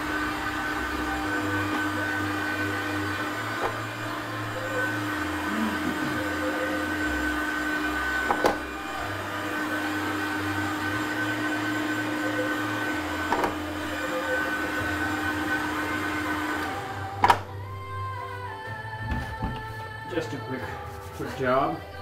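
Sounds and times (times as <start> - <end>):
heat gun fan whirring: 0.0 - 22.0.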